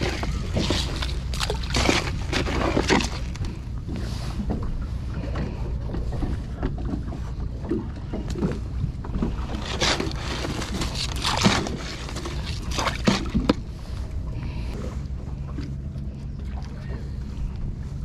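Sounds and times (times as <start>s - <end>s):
steady low rumble: 0.0s - 18.0s
water splashing against boat: 0.0s - 18.0s.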